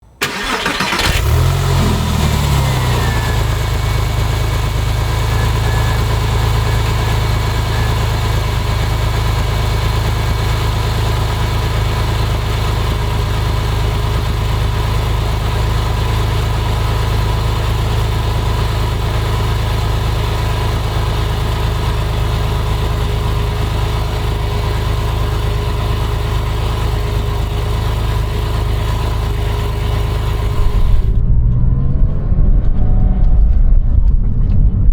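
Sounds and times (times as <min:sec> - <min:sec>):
car engine cranking and idling: 0:00.0 - 0:34.9.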